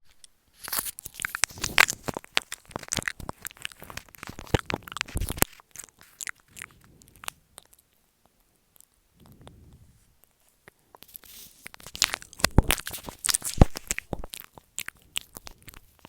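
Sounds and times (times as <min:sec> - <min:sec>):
wet mouth clicks and lip smacks: 0:00.6 - 0:09.5, 0:10.7 - 0:16.0.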